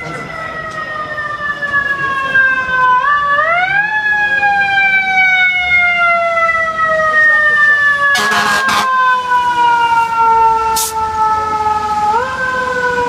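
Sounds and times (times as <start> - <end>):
fire engine siren wailing: 0.0 - 13.0.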